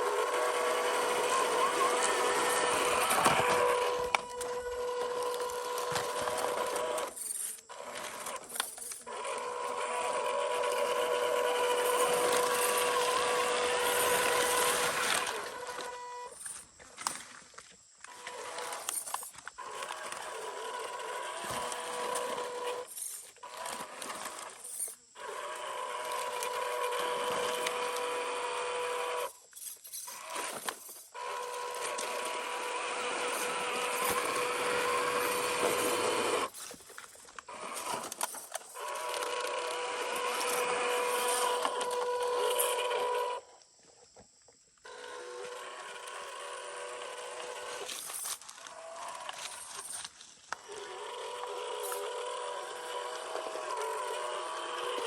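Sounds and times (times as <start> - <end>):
small electric motor whining: 0.0 - 16.7, 18.0 - 43.6, 44.8 - 55.0.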